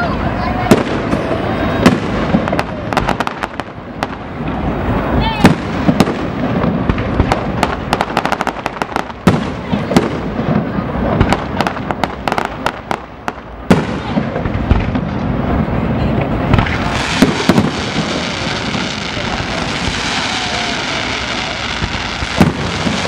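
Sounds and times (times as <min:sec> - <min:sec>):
fireworks crackling pops: 0:00.0 - 0:23.0
fireworks heavy bangs: 0:00.0 - 0:23.0.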